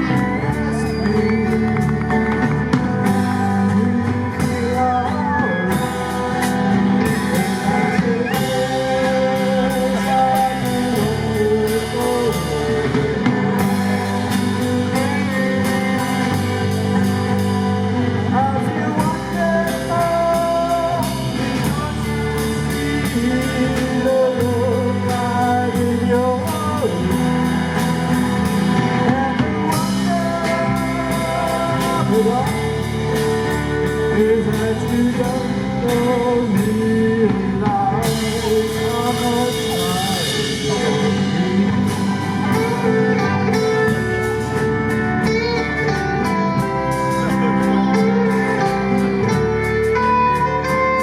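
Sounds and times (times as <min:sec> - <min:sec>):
bass guitar: 0:00.0 - 0:51.0
drum kit: 0:00.0 - 0:51.0
electric guitar: 0:00.0 - 0:51.0.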